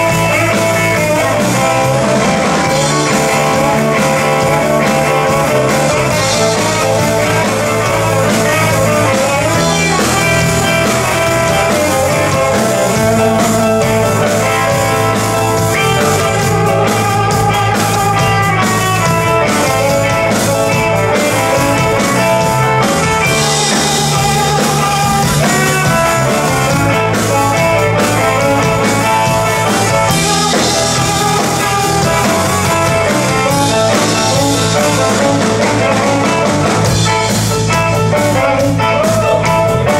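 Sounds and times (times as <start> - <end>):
drum kit: 0.0 - 39.9
electric guitar playing blues: 0.0 - 39.9.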